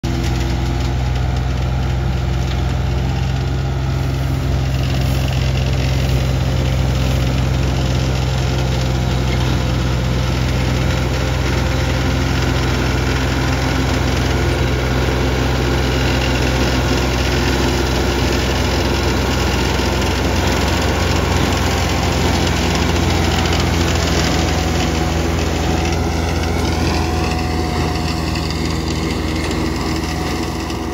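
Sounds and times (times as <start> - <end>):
disc mower cutting grass: 0.0 - 30.9
tractor diesel engine running: 0.0 - 30.9.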